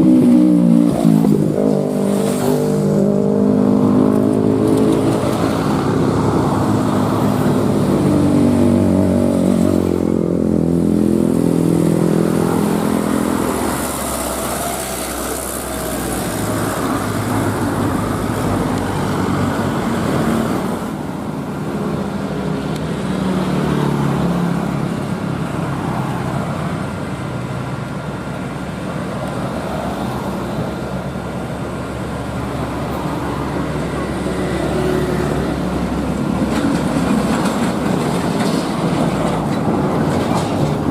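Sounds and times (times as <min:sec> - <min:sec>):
truck diesel engines labouring: 0:00.0 - 0:40.9.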